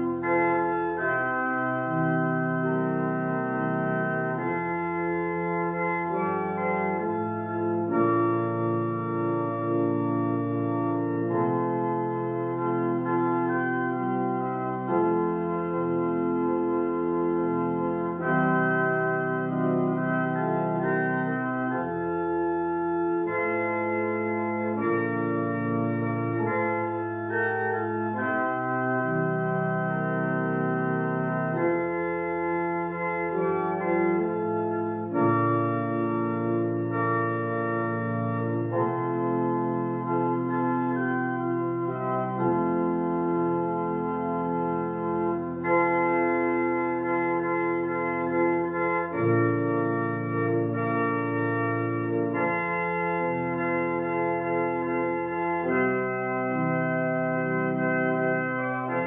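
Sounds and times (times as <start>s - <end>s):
organ playing chords: 0.0s - 59.0s.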